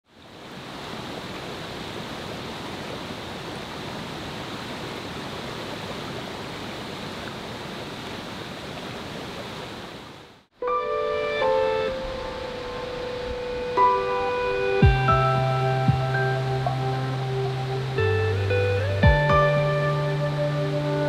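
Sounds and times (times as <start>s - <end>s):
water rushing over rocks: 0.1s - 10.5s, 11.4s - 21.0s.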